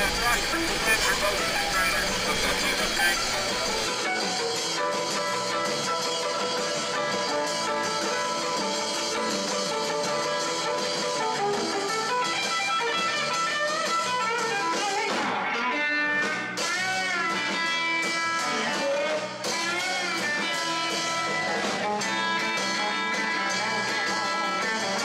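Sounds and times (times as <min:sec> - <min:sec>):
guitar background music: 0:00.0 - 0:25.0.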